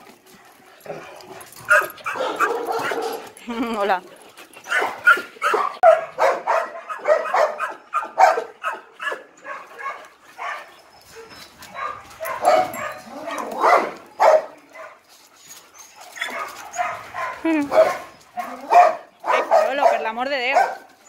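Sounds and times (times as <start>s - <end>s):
dogs barking and yipping: 0.0s - 21.0s.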